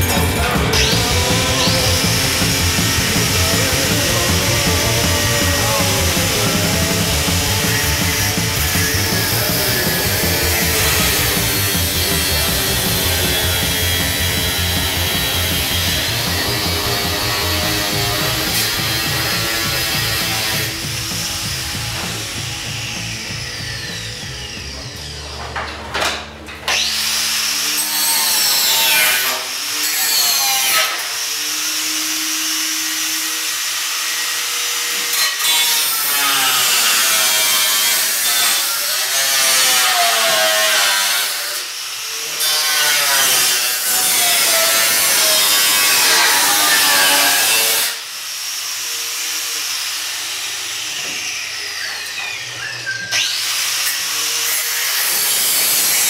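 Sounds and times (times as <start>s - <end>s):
angle grinder cutting sheet metal: 0.0s - 56.0s.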